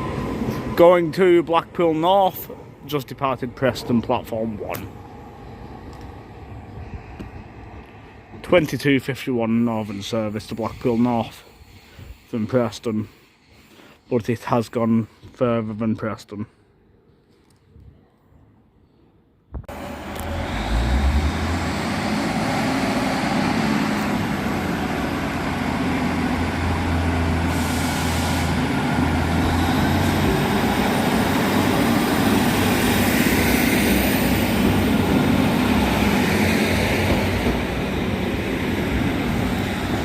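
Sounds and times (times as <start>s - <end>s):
train engine rumble: 0.0s - 14.4s, 19.7s - 40.0s.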